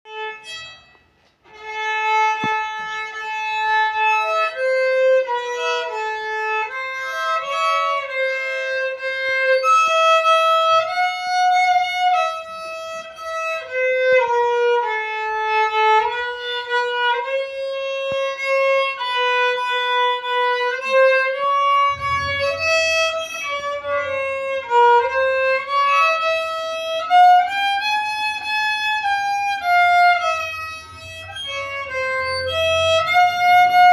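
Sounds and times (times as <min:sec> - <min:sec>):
fiddle bowed melody: 0:00.0 - 0:33.9.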